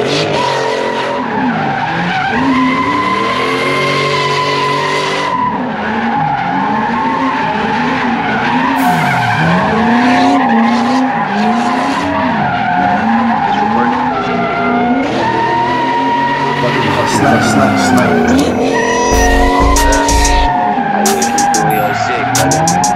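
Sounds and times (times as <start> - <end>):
car engines revving: 0.0 - 22.9
tires screeching: 0.0 - 22.9.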